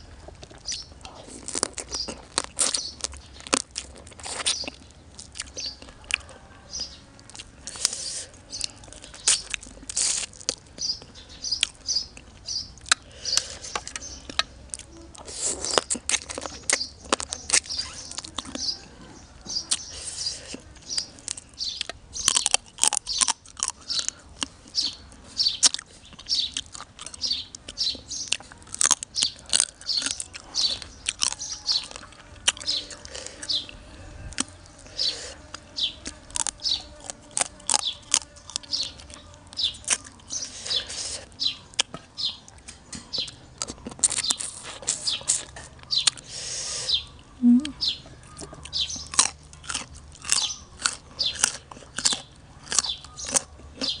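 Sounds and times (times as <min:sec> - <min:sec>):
wet chewing and sucking: 0:00.1 - 0:06.3, 0:07.2 - 0:54.0.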